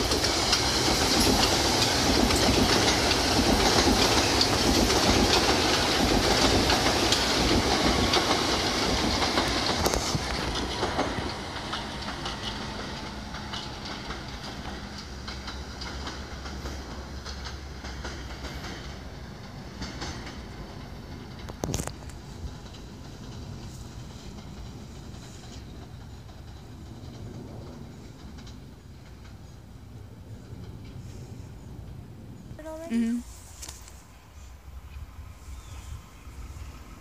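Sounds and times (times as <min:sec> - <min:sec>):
train wheels clacking on rails: 0:00.0 - 0:32.9
train rumble: 0:00.0 - 0:37.0.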